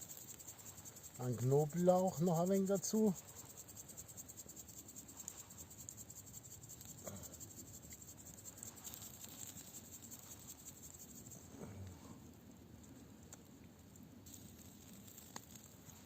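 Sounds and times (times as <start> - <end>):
faint insects chirping: 0.0 - 16.0.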